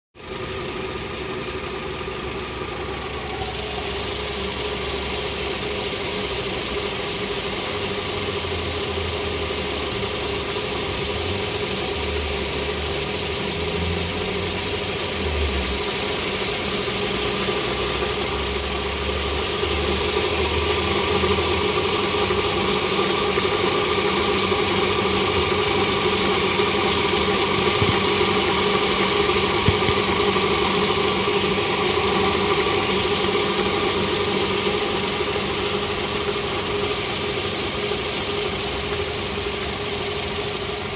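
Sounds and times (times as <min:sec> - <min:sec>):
car engine idling: 0:00.2 - 0:40.9.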